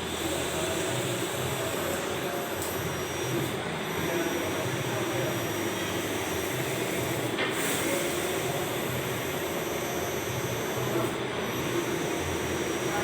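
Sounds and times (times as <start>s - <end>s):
inkjet printer running: 0.0s - 13.0s.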